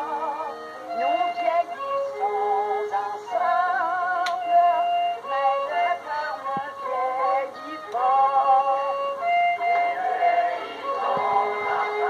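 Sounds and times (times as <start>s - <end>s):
fiddle dance tune: 0.0s - 12.0s.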